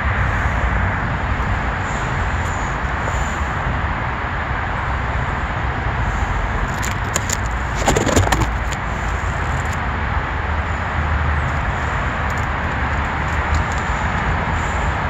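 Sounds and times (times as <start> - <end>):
noisy city rush: 0.0 - 15.0.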